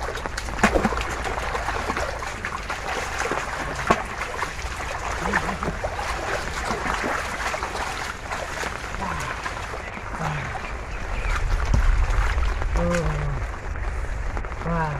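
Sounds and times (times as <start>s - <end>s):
shallow water sloshing and trickling: 0.0s - 14.6s
small water splashes: 0.0s - 14.9s.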